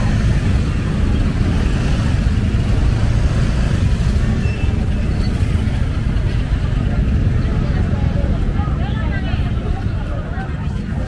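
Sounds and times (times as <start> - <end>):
low rumble of traffic: 0.0 - 11.0
motorcycle engines running: 0.0 - 11.0.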